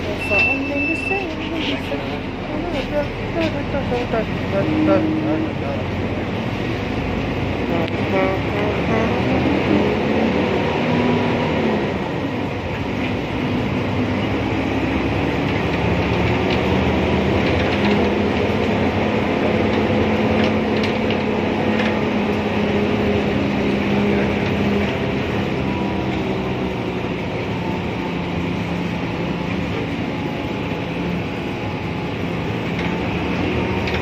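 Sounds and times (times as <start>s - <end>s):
bus engine running: 0.0s - 34.0s
road noise: 0.0s - 34.0s.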